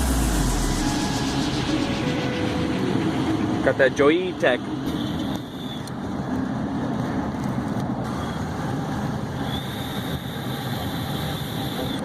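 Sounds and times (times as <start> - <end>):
faint high whine: 0.0 - 6.4, 8.0 - 12.0
vehicle engine and road noise: 0.0 - 12.0.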